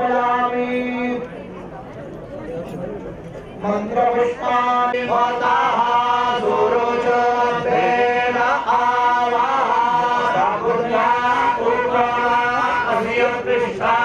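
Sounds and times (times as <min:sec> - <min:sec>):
man chanting melodically: 0:00.0 - 0:01.2, 0:03.6 - 0:14.0.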